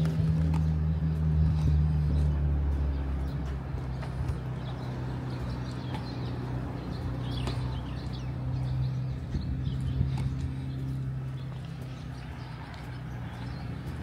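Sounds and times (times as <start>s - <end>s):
large vehicle engine humming: 0.0s - 14.0s.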